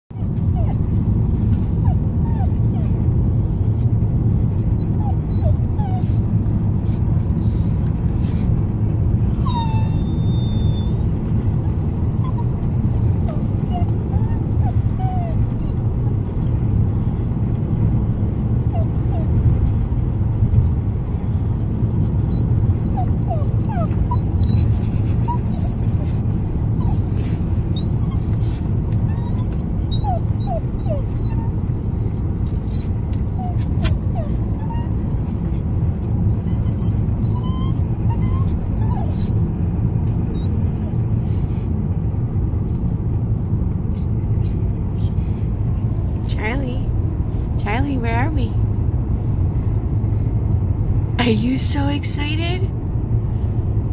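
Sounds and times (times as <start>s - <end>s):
wind and road noise in car: 0.1s - 53.9s
dog whimpering: 0.2s - 8.6s, 9.3s - 39.6s, 40.2s - 41.6s, 49.3s - 53.9s.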